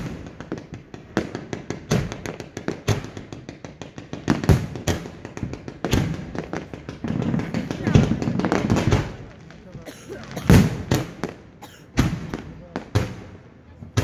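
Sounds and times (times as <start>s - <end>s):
fireworks banging: 0.0s - 14.0s
fireworks crackling: 0.0s - 14.0s.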